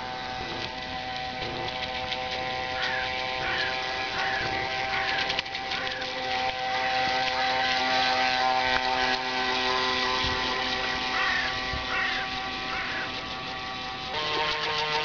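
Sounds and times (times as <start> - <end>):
small electric motor whining: 0.0 - 15.0
water hiss from boat wake: 0.0 - 15.0.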